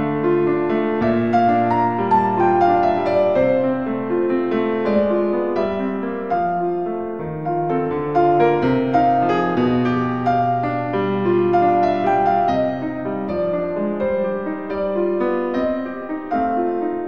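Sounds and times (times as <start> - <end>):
slow calm piano music: 0.0 - 17.0.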